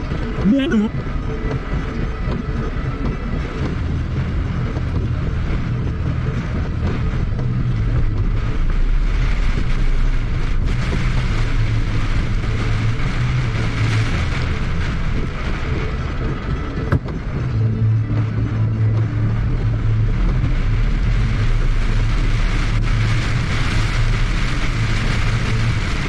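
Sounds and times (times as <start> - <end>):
car engine and road rumble: 0.0 - 26.0
heavy rain and wet tyres hissing: 0.0 - 26.0.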